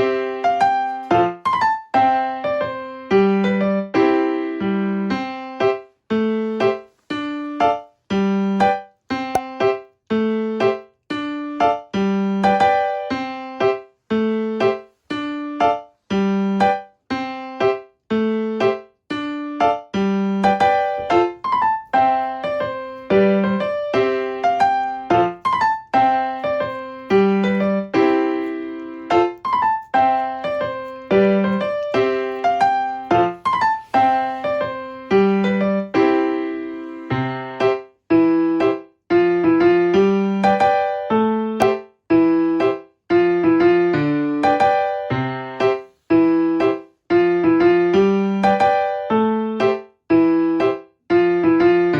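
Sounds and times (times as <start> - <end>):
light piano tune: 0.0 - 51.9.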